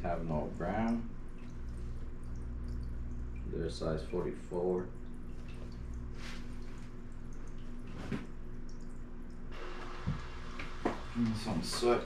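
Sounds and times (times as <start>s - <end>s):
aquarium filter humming: 0.0s - 12.0s
water trickling: 0.0s - 12.0s.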